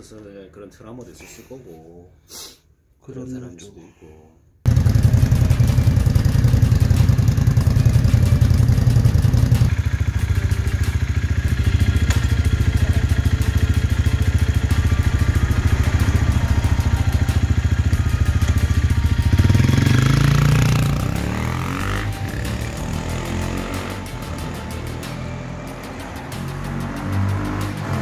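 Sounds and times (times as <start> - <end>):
motorcycle engines idling: 4.7 - 28.0
motorcycle revving and pulling away: 4.7 - 28.0.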